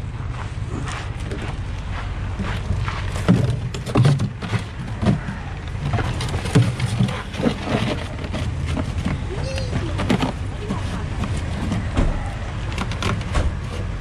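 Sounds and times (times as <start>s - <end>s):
knocks and rattles: 2.4s - 14.0s.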